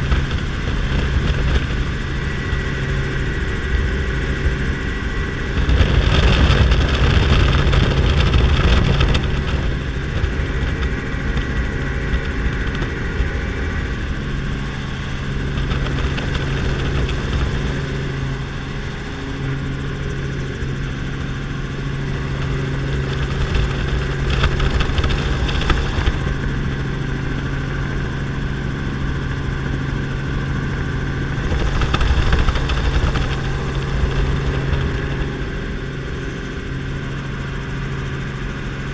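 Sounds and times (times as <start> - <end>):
wind buffeting microphone: 0.0 - 37.3
helicopter engine and rotor: 0.0 - 38.9.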